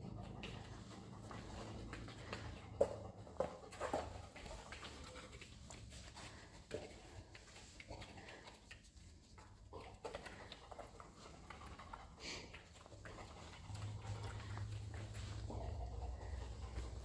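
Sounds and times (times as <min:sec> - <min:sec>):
dog paws pattering on floor: 0:00.0 - 0:17.0.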